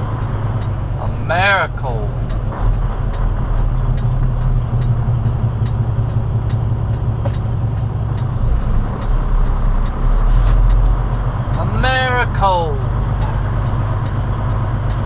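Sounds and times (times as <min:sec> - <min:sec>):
diesel truck idling: 0:00.0 - 0:15.0.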